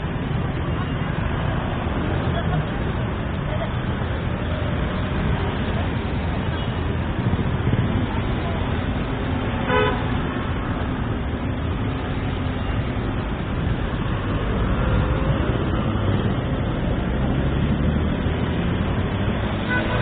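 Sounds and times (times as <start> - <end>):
city street traffic rumble: 0.0 - 20.0.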